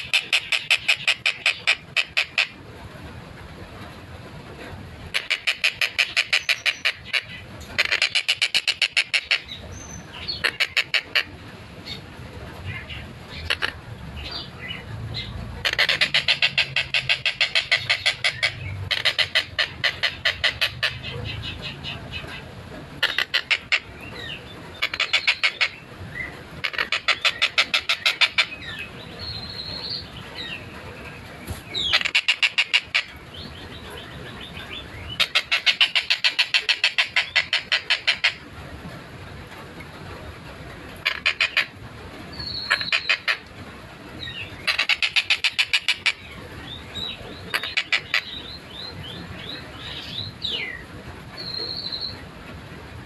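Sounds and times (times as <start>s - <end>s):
kingfisher rattling call: 0.0s - 2.6s, 5.1s - 12.0s, 12.7s - 25.9s, 26.6s - 30.7s, 31.7s - 38.5s, 41.0s - 43.5s, 44.2s - 52.2s.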